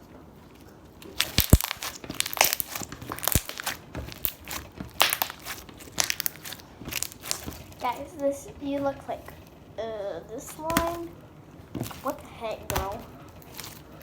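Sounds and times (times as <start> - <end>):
slime popping and crackling: 0.5 - 9.7, 10.3 - 14.0.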